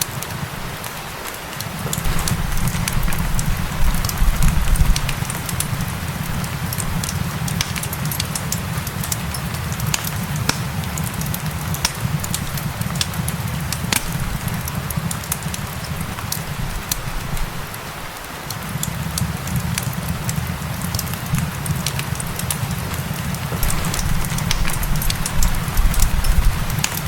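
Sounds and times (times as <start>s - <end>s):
steady rain: 0.0s - 27.0s
wood fire crackling and popping: 0.0s - 27.0s.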